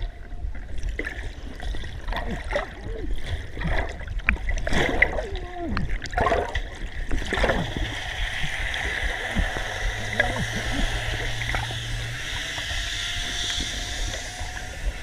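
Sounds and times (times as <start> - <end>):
low steady hum: 0.0 - 15.0
underwater gurgling and churning: 0.0 - 15.0.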